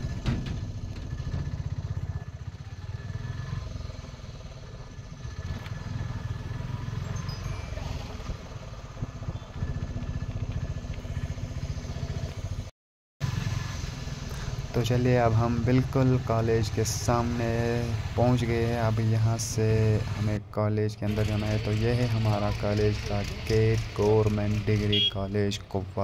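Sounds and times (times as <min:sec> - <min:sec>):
auto-rickshaw engine running: 0:00.0 - 0:26.0.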